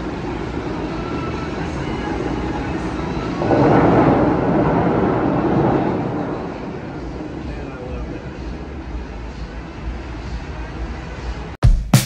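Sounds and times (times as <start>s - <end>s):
city traffic noise: 0.0s - 11.6s.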